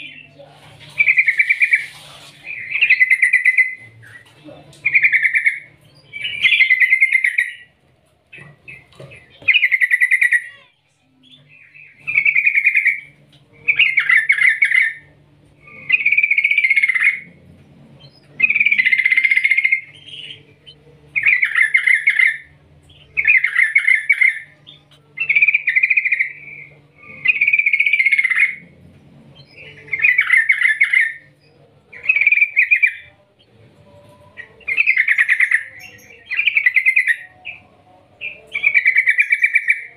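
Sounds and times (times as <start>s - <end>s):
bird singing bubbly phrases: 0.9s - 7.7s, 8.6s - 17.4s, 18.0s - 28.7s, 29.4s - 33.5s, 34.4s - 39.9s.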